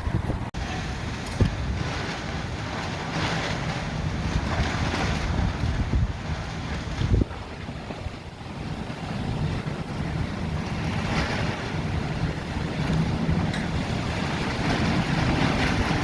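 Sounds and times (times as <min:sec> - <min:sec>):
gusting wind buffeting microphone: 0:00.0 - 0:16.0
wind thumps on microphone: 0:00.0 - 0:16.0.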